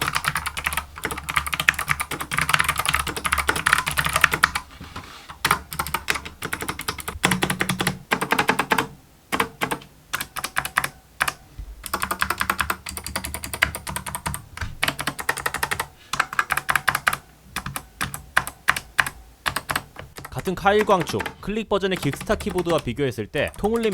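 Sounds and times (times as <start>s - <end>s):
mechanical keyboard typing: 0.0s - 4.6s, 5.4s - 23.9s.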